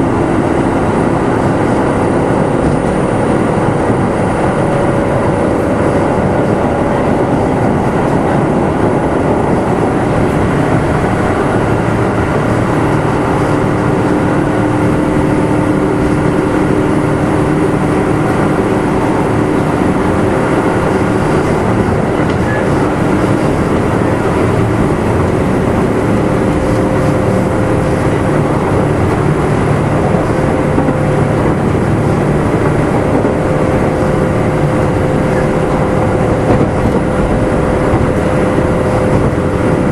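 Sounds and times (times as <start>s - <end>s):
train motor whine: 0.0s - 39.9s
train wheels rumbling: 0.0s - 39.9s.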